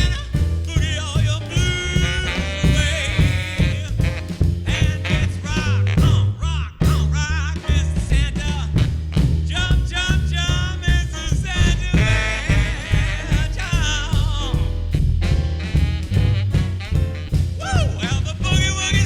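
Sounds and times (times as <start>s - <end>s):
big band swing music: 0.0s - 19.0s.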